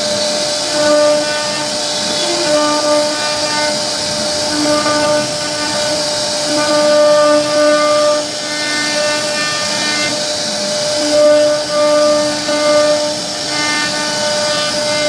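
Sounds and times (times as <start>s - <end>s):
hiss of wood cutting: 0.0s - 15.0s
router spindle whining: 0.0s - 15.0s.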